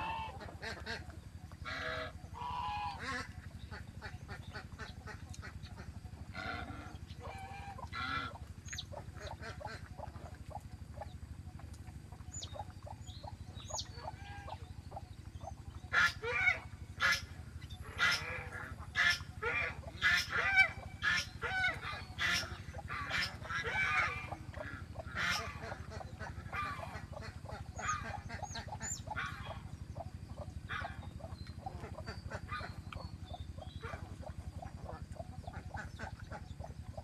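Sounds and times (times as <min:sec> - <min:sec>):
geese honking: 0:00.0 - 0:01.0, 0:01.7 - 0:10.1, 0:12.4 - 0:32.8
poultry calling: 0:00.0 - 0:01.0, 0:01.6 - 0:10.7, 0:12.1 - 0:37.0.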